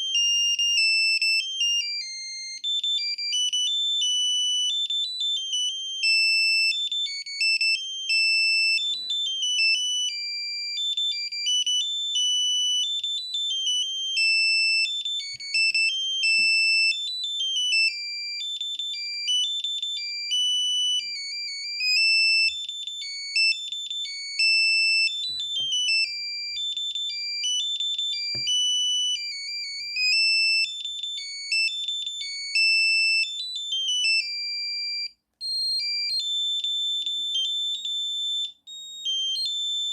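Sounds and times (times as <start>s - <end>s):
mobile phone ringtone beeps: 0.0s - 39.9s.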